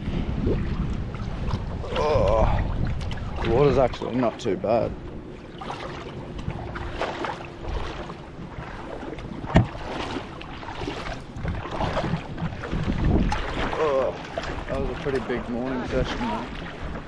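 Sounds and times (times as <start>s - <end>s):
water splashing around wading person: 0.0s - 17.0s
wind on microphone: 0.0s - 17.0s.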